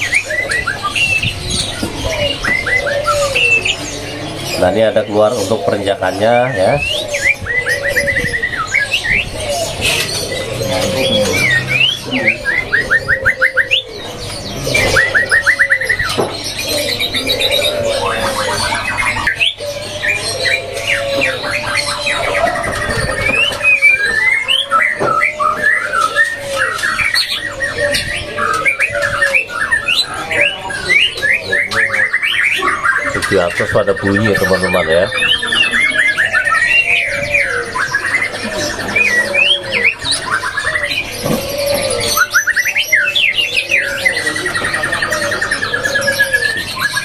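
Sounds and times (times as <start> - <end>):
bird singing trills and whistles: 0.0 - 47.0
lower bird calls: 0.0 - 47.0.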